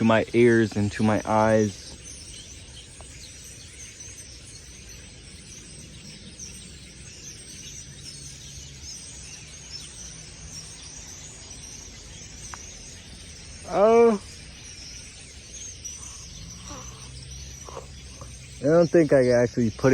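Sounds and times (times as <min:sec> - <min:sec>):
flock of birds chattering: 0:00.0 - 0:19.9.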